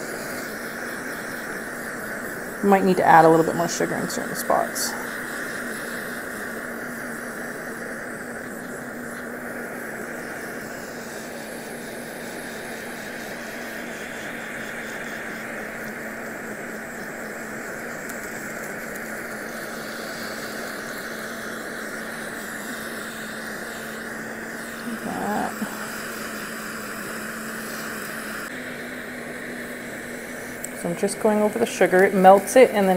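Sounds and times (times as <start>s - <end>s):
kitchen torch hissing: 0.0s - 32.9s.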